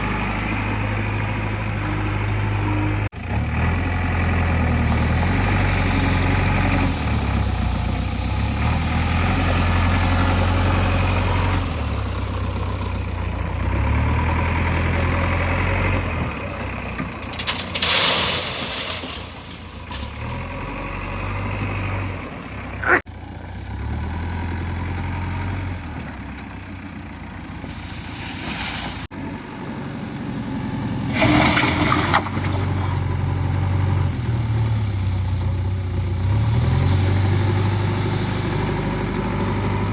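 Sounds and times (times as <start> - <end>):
backhoe diesel engine running: 0.0 - 17.8, 19.4 - 27.9, 29.2 - 39.9.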